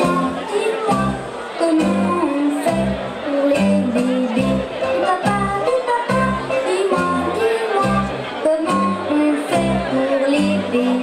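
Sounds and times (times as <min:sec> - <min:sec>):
pop song over loudspeakers: 0:00.0 - 0:11.0.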